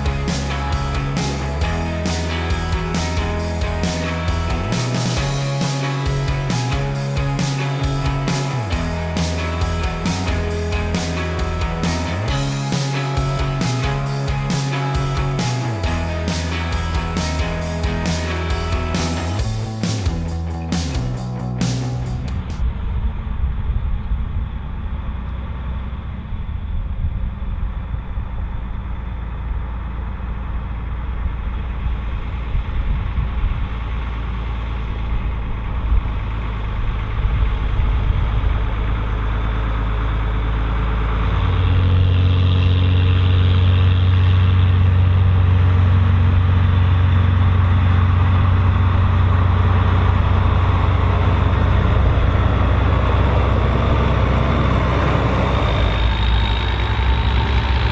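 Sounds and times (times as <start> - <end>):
tractor diesel engine under load: 0.0 - 22.9, 24.0 - 57.9.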